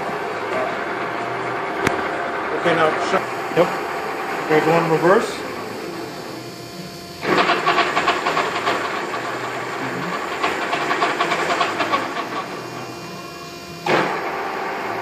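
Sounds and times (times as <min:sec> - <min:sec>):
grinder hissing clatter: 0:02.5 - 0:15.0.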